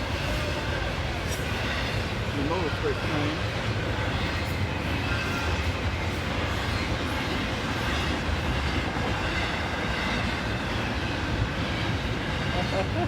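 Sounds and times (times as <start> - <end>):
train cars rolling past: 0.0 - 13.0.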